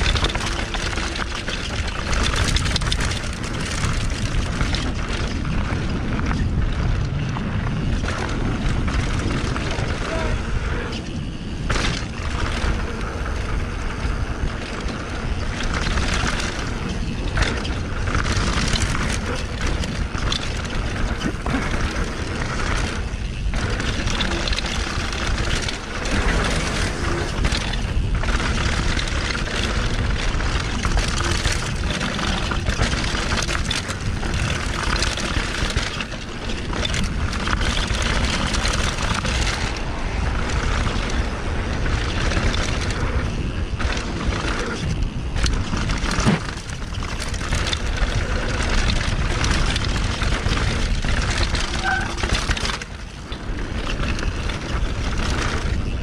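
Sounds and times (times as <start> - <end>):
bike knocking and rattling: 0.0 - 56.0
tyre and trail noise: 0.0 - 56.0
wind rushing on microphone: 0.0 - 56.0.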